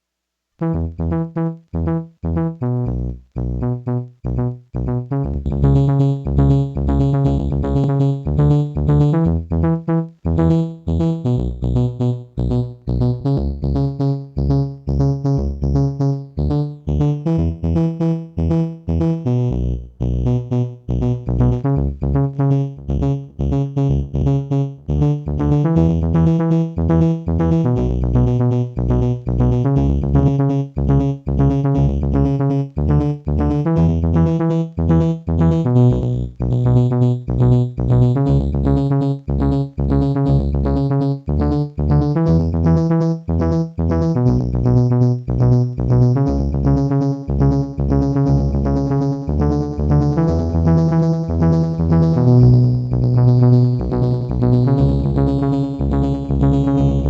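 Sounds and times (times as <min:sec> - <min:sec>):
bass line: 0:00.6 - 0:57.0
low beat: 0:00.6 - 0:57.0
synthesizer pattern with delay: 0:00.6 - 0:57.0.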